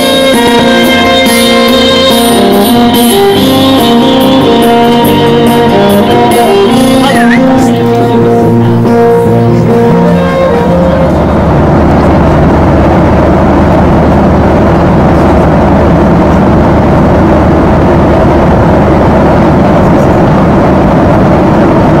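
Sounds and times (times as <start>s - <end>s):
airliner cabin engine and air noise: 0.0s - 22.0s
low hum: 0.0s - 22.0s.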